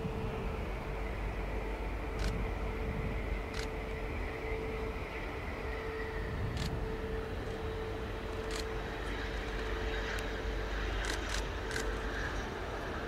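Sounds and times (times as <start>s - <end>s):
jet engine rumbling: 0.0s - 13.0s.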